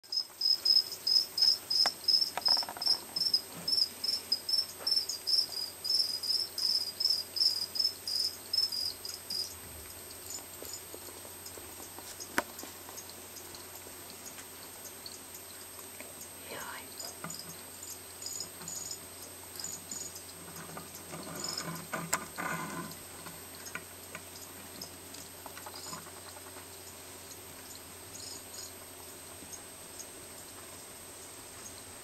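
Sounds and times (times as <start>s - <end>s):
cricket chirping: 0.1s - 31.9s.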